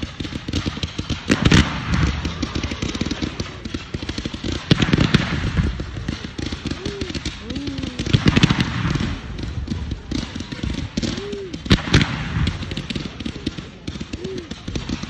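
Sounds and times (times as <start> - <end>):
fireworks crackling: 0.0 - 15.0
loud sharp firework bangs: 0.0 - 15.0.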